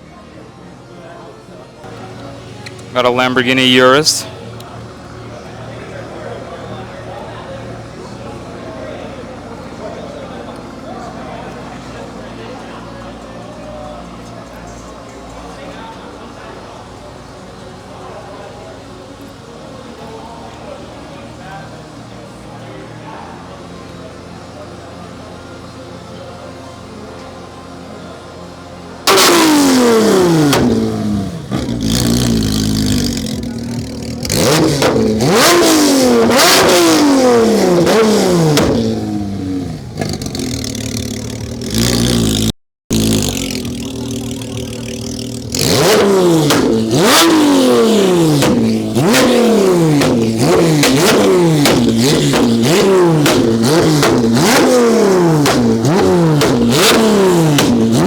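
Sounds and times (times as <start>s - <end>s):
exhaust cracks: 1.8s - 24.7s, 29.0s - 58.0s
car engine revving: 1.8s - 58.0s.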